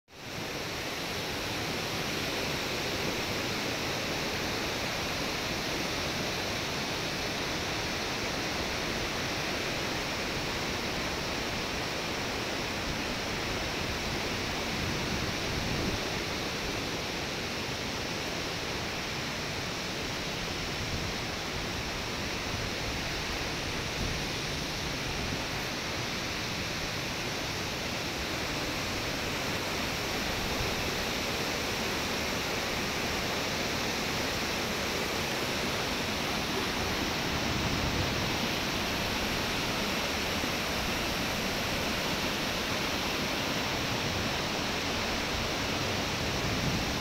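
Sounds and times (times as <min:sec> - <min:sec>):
fast stream over rocks: 0:00.2 - 0:47.0
waterfall rushing: 0:00.2 - 0:47.0.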